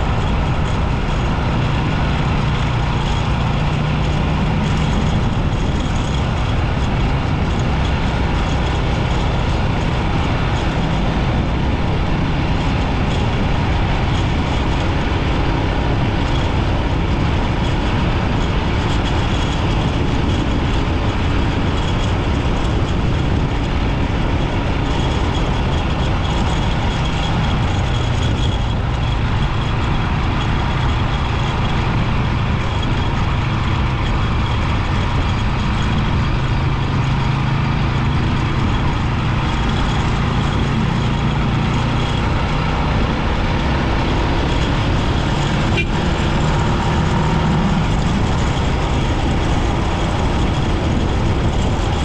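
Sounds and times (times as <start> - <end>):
motorbike engine running: 0.0 - 52.0
road noise rushing: 0.0 - 52.0.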